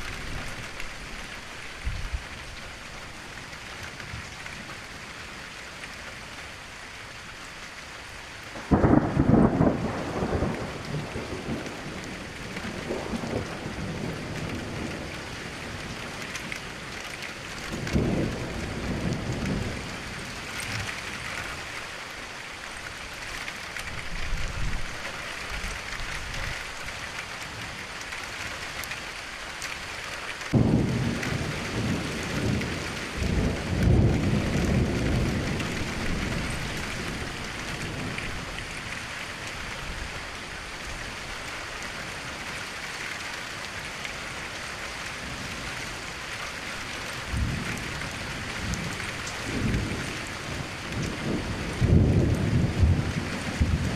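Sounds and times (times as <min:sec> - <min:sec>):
heavy rain hissing: 0:00.0 - 0:53.9.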